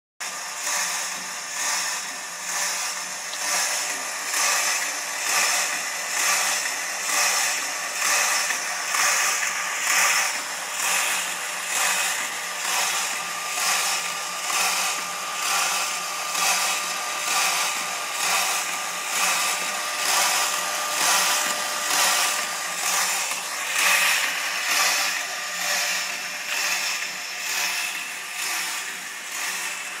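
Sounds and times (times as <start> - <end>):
yarn rubbing machine: 0.2 - 30.0.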